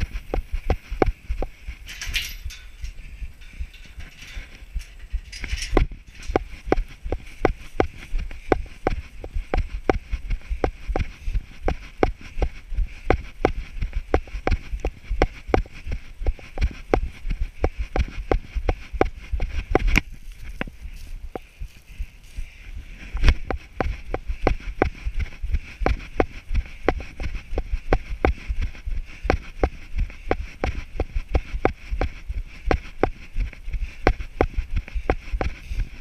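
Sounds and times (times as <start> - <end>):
running footsteps on grass: 0.0 - 36.0.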